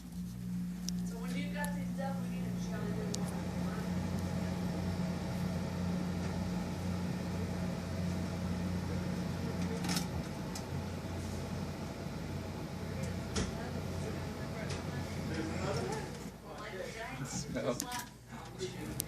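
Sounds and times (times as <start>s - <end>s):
motor humming: 0.0s - 16.5s.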